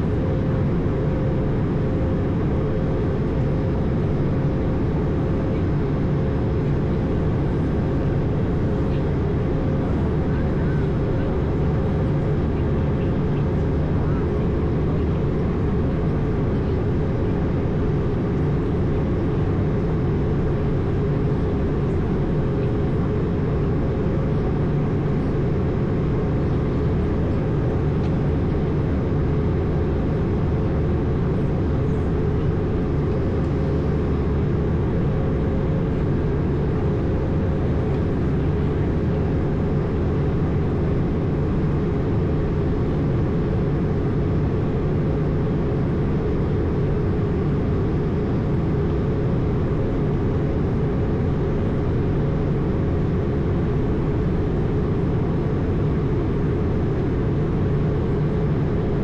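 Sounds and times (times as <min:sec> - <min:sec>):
aircraft cabin drone: 0:00.0 - 0:59.0
faint steady hum: 0:00.0 - 0:59.0.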